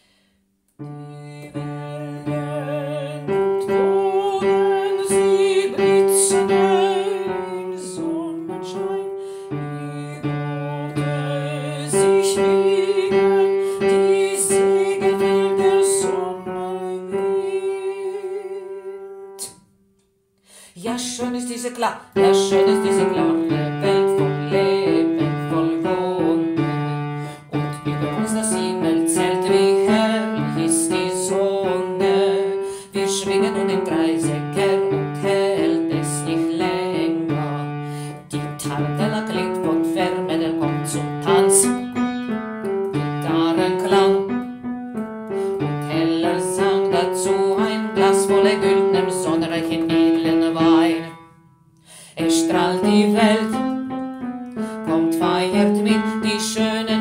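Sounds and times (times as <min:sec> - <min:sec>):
piano playing chords: 0:00.8 - 0:19.6, 0:22.1 - 0:57.0.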